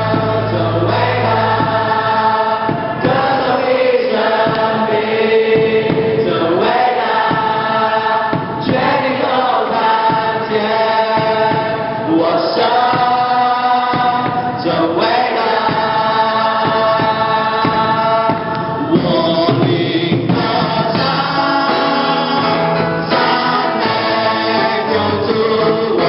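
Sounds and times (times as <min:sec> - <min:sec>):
crowd singing worship song: 0:00.0 - 0:26.0.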